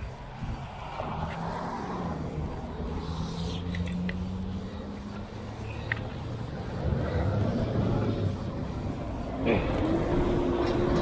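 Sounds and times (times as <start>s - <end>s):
vehicle engine low drone: 0.0s - 11.0s.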